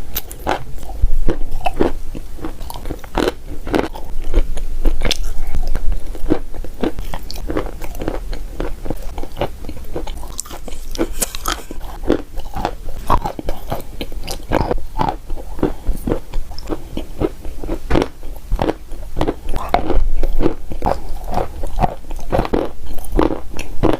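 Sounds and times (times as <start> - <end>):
chalk being chewed: 0.1 - 23.9.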